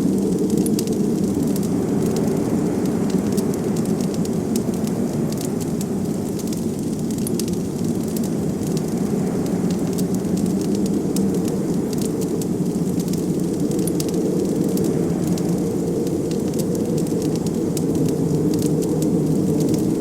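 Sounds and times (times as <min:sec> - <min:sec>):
blizzard wind rushing: 0:00.0 - 0:20.0
wood fire crackling: 0:00.0 - 0:20.0.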